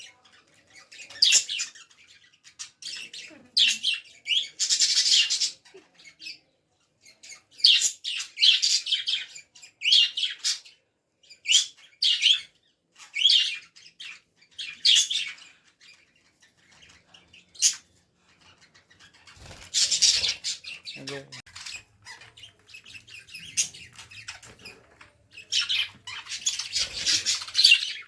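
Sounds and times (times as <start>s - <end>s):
budgerigars chirping: 0.0s - 28.0s.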